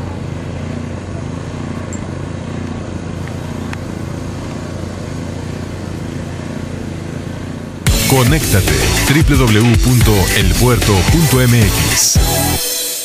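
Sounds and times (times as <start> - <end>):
low engine hum: 0.0 - 11.9
outdoor noise: 0.0 - 13.0.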